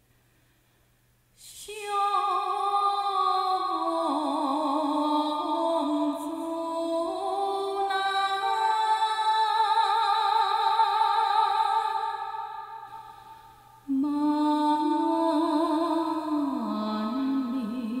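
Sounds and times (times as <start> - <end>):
person singing slow melody: 1.4 - 18.0.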